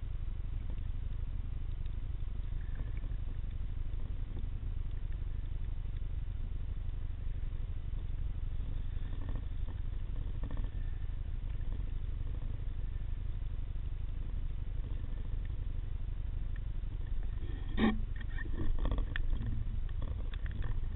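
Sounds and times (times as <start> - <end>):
faint clicks and crackle: 0.0 - 20.9
underwater low rumble: 0.0 - 20.9.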